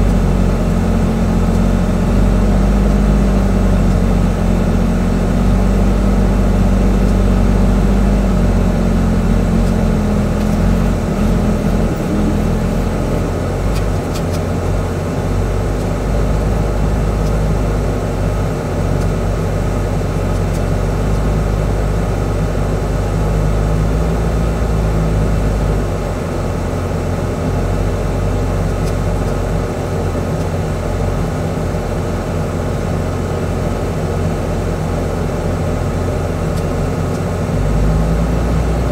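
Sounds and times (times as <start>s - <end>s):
truck diesel engine rumbling: 0.0s - 38.9s.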